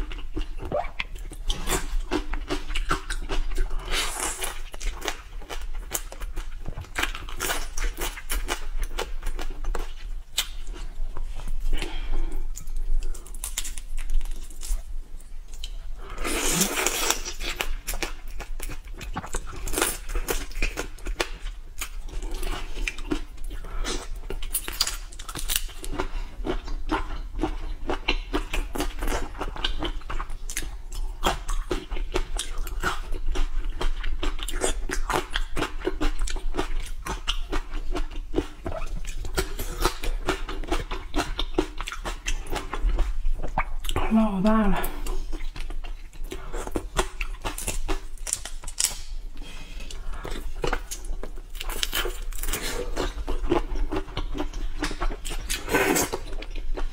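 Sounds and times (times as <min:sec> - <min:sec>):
wet chewing and crunching: 0:00.0 - 0:44.1, 0:44.8 - 0:56.9.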